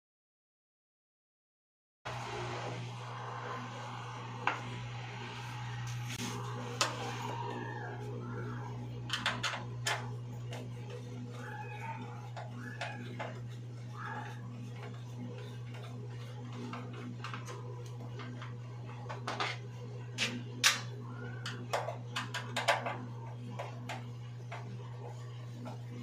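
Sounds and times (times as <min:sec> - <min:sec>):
steady low hum: 0:02.1 - 0:26.0.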